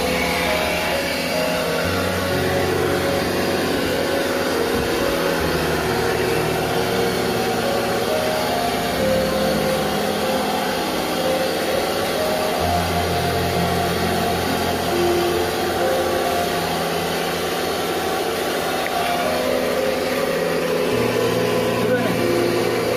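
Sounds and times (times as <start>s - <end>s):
pressure washer spraying: 0.0s - 22.9s.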